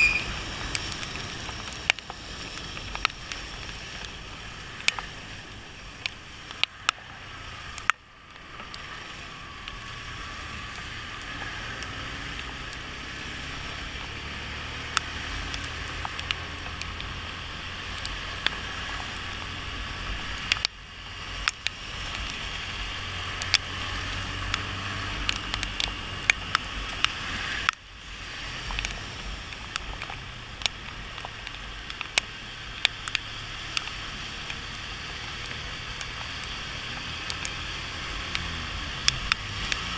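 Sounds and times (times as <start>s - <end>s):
raindrops ticking on microphone: 0.0s - 39.9s
wet road and wind rush: 0.0s - 39.9s.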